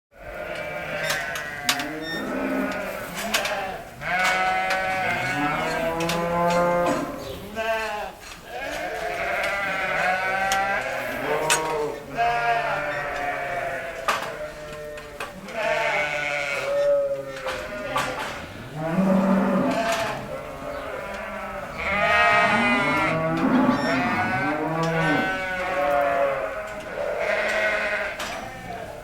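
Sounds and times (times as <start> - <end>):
sheep bleating: 0.2 - 29.0.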